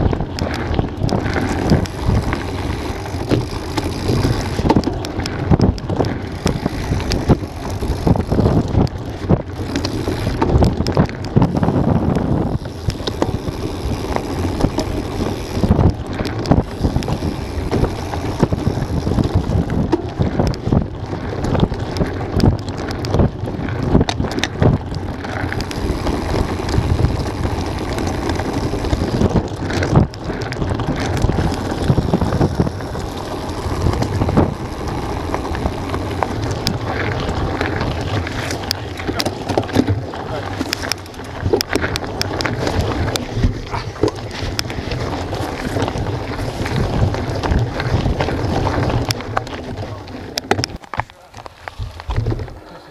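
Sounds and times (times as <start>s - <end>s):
bike knocking and rattling: 0.0s - 52.8s
tyres on loose stones: 0.0s - 52.9s
wind rushing on microphone: 0.0s - 52.9s.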